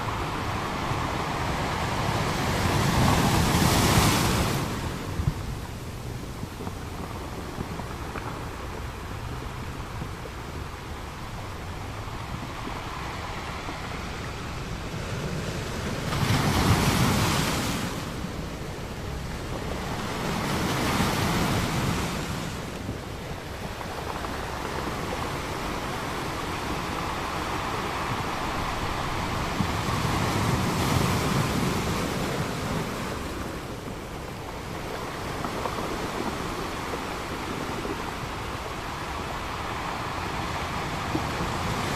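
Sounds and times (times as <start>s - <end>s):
ocean waves breaking: 0.0s - 41.9s.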